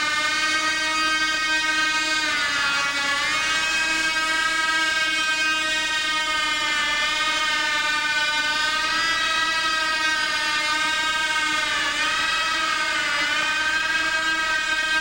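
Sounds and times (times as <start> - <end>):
model aircraft engine whine: 0.0 - 15.0.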